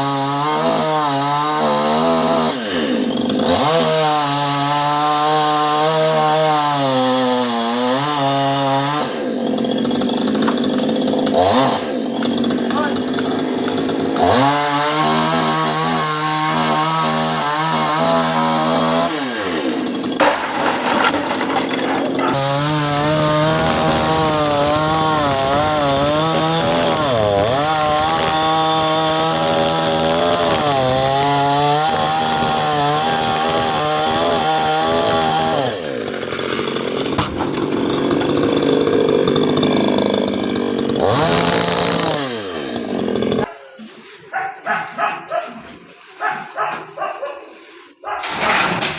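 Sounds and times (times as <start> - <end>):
chainsaw cutting wood: 0.0 - 43.5, 44.3 - 48.9.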